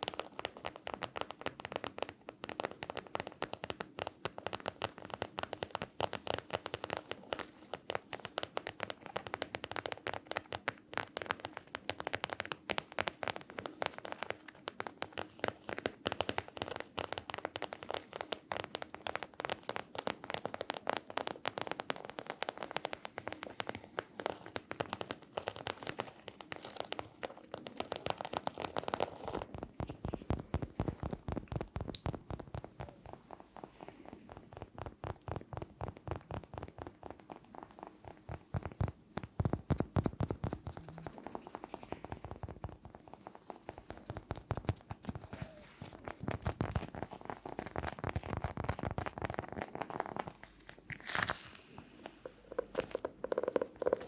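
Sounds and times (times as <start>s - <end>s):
rapid tapping on objects: 0.0s - 50.8s, 52.2s - 54.0s.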